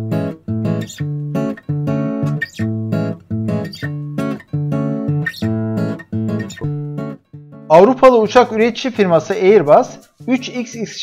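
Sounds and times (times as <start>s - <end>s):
bossa nova acoustic guitar: 0.0s - 8.6s, 9.2s - 10.8s.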